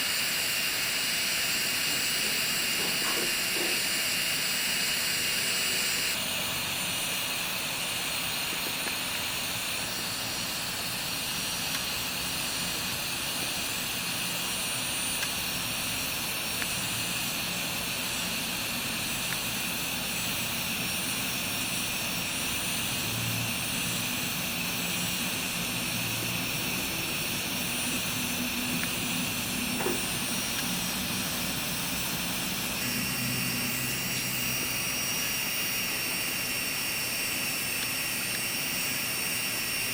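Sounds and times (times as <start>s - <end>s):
electric foot drill whirring: 0.0s - 39.9s.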